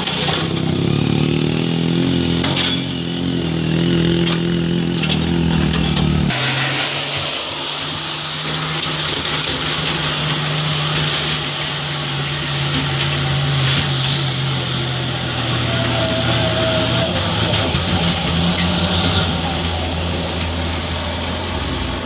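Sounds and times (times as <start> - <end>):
truck diesel engine labouring: 0.0 - 22.0
high whine: 1.9 - 22.0.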